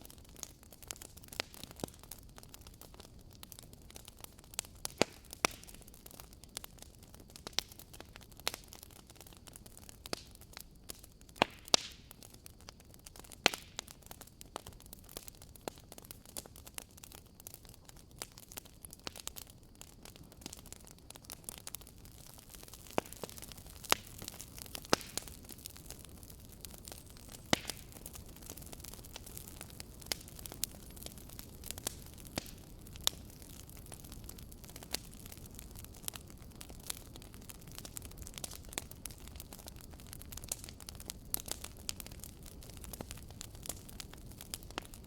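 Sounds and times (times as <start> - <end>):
faint steady hiss: 0.0 - 45.0
wood fire crackling: 0.0 - 45.0.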